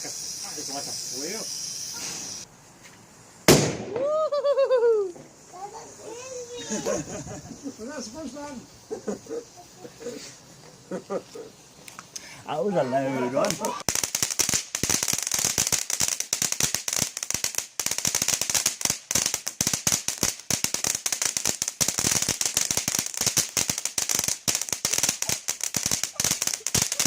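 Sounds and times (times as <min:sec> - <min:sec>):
fireworks crackling and banging: 0:00.0 - 0:12.1, 0:12.8 - 0:27.0.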